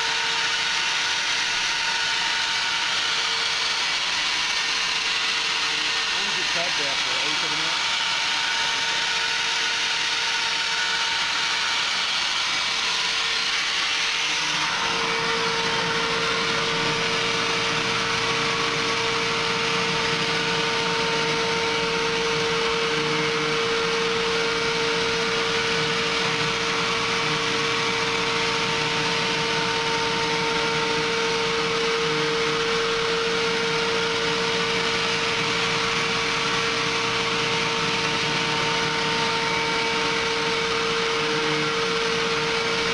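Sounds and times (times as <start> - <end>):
milling machine spindle whine: 0.0 - 42.9.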